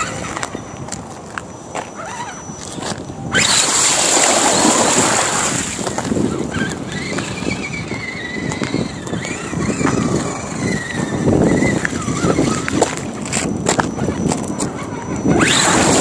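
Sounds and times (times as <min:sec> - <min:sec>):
tyres crunching on gravel: 0:00.0 - 0:14.8
thin wavering motor whine: 0:00.0 - 0:16.0.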